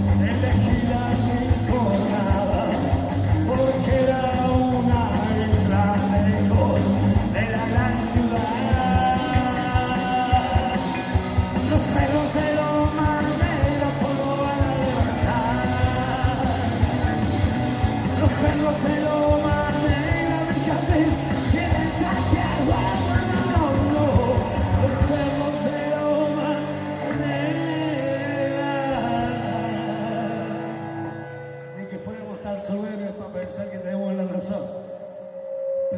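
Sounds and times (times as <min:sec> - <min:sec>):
drum kit: 0:00.0 - 0:30.6
lead vocals singing: 0:00.0 - 0:31.6
electric guitars: 0:00.0 - 0:35.9.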